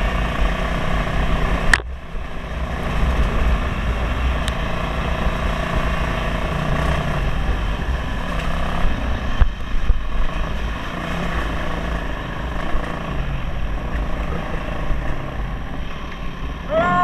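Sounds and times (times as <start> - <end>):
dirt bike engine running: 0.0 - 17.0
low wind rumble: 0.0 - 17.0.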